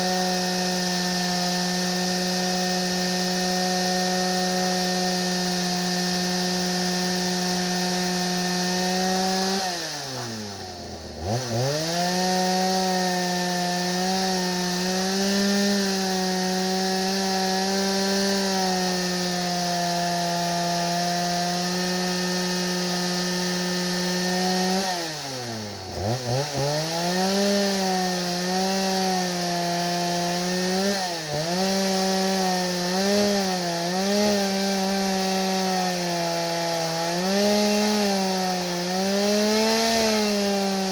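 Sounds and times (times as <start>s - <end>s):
chainsaw cutting through oak: 0.0s - 40.9s.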